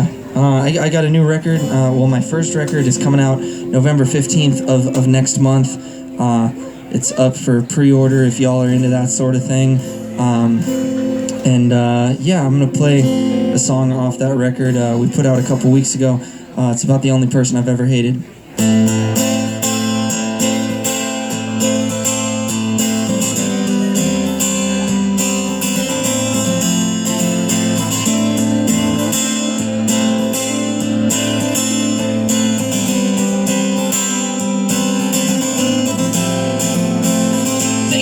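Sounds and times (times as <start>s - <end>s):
guitar strumming chords: 0.0s - 38.0s.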